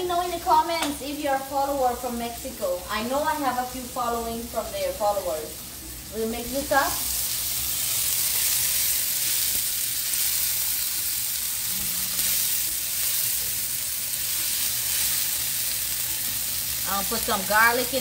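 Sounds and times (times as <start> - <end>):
vegetables sizzling in frying pan: 0.0 - 18.0.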